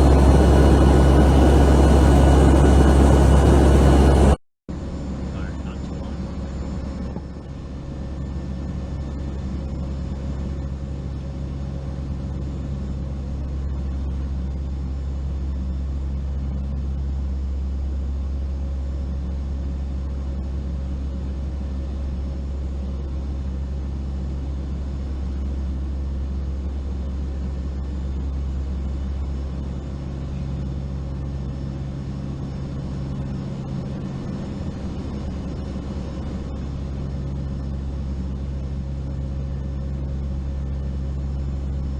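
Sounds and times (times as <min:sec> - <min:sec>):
aircraft engine drone in cabin: 0:00.0 - 0:41.9.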